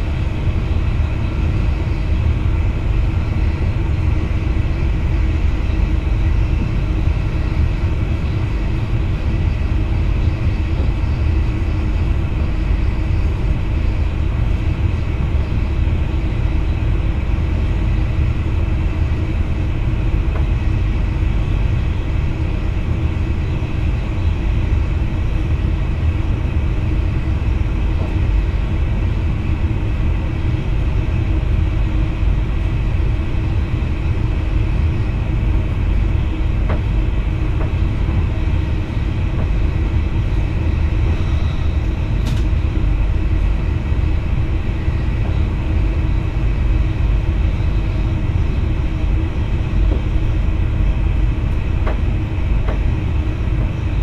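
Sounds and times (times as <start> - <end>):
steady hum: 0.0 - 54.0
train running gear rumble: 0.0 - 54.0.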